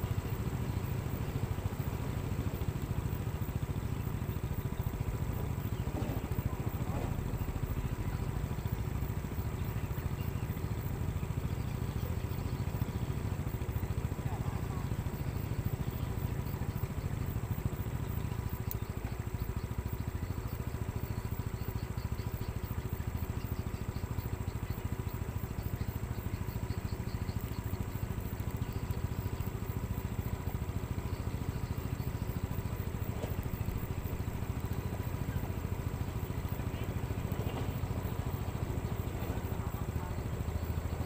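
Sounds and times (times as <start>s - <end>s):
grader diesel engine running: 0.0s - 41.0s.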